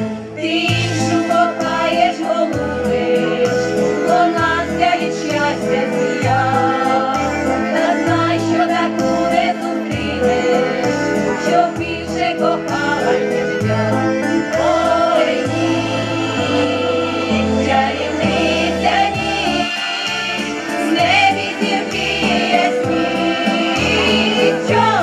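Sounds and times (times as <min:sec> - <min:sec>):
instrumental accompaniment with bass: 0:00.0 - 0:25.0
women's choir singing in harmony: 0:00.3 - 0:25.0.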